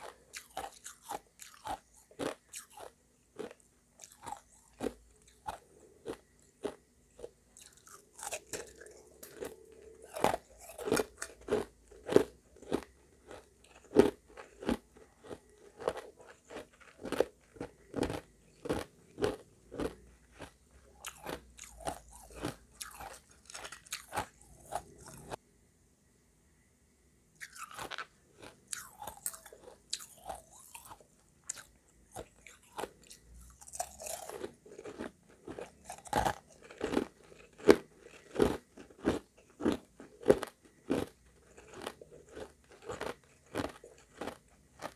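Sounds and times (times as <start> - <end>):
chewing crunchy ice: 0.0 - 25.4, 27.4 - 44.9.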